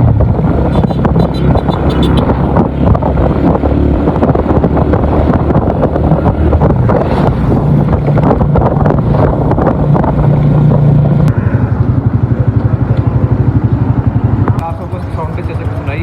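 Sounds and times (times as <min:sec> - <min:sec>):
wind on microphone: 0:00.0 - 0:14.7
motorcycle engine running: 0:00.0 - 0:16.0.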